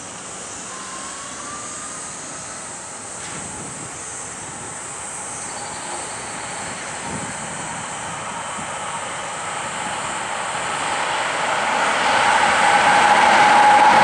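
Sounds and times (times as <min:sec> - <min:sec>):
electric train approaching: 0:00.0 - 0:14.0
wheels rushing on rail: 0:00.0 - 0:14.0.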